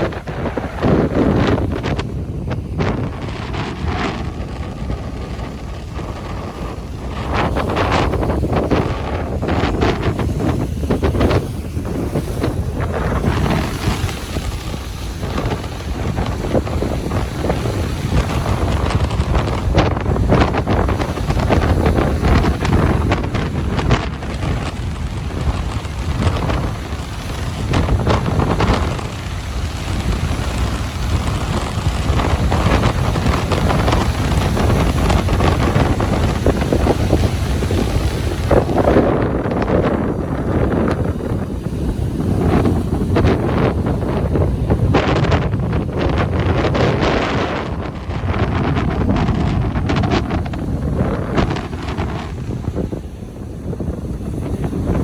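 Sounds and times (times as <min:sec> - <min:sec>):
ocean surf washing onto beach: 0:00.0 - 0:55.0
wind buffeting microphone: 0:00.0 - 0:55.0.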